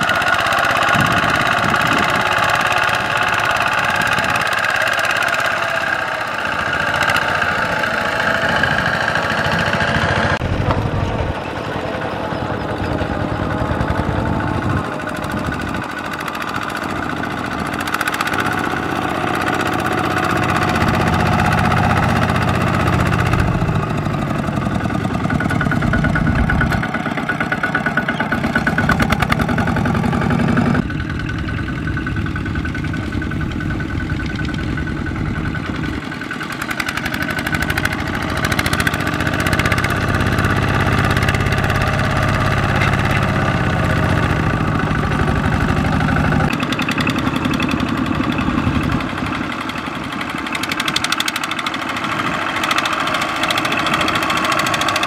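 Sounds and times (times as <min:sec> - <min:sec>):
diesel tractor engines chugging: 0:00.0 - 0:55.0.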